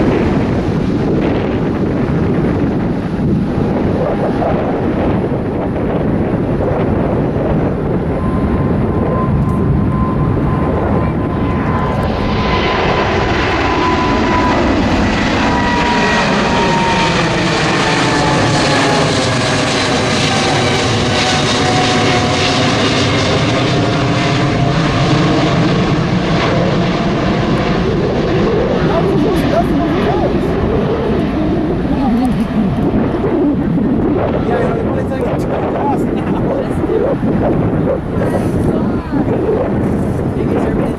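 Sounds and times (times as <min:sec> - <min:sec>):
airliner engines passing: 0:00.0 - 0:40.9.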